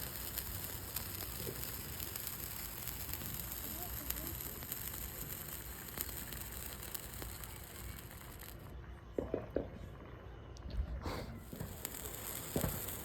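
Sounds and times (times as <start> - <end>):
sparklers fizzing and crackling: 0.0 - 9.3, 11.1 - 13.0.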